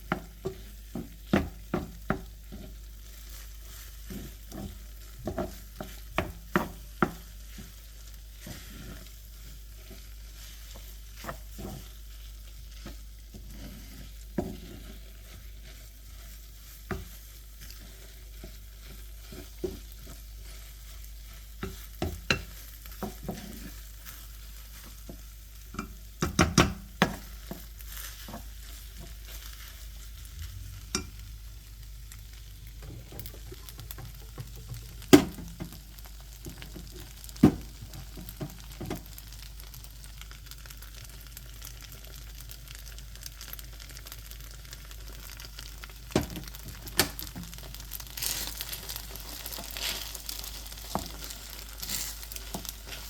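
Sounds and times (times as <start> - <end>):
spatula scraping and knocking pan: 0.0 - 39.8, 44.9 - 53.0
rice sizzling in a frying pan: 0.0 - 53.0.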